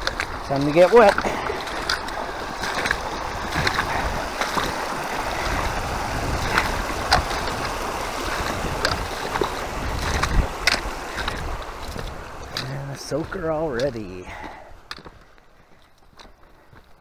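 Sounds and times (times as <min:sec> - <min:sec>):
creek water rushing: 0:00.0 - 0:16.7
boots splashing through water: 0:00.0 - 0:17.0.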